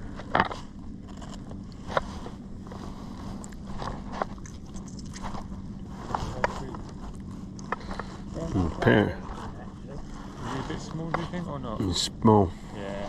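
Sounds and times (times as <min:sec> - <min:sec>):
steady low hum: 0:00.0 - 0:13.0
knocks and scrapes on boat: 0:00.1 - 0:11.6.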